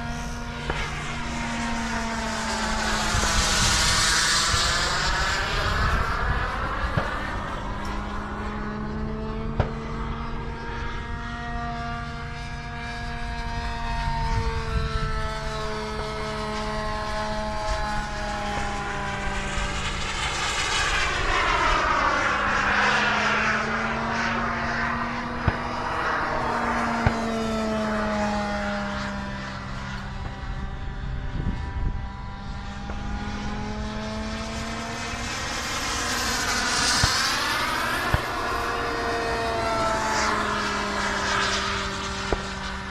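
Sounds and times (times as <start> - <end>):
model airplane engine flying past: 0.0 - 42.9.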